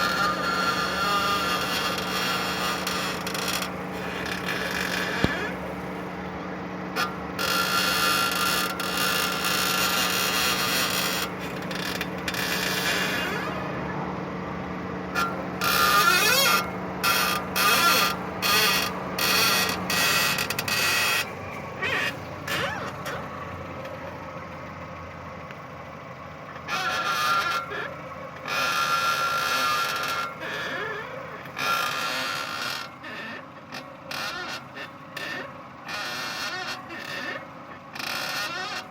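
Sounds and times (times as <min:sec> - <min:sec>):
car wheel creaking: 0:00.0 - 0:06.2, 0:06.9 - 0:13.8, 0:15.1 - 0:24.0, 0:26.6 - 0:38.9
car engine idling: 0:00.0 - 0:38.9.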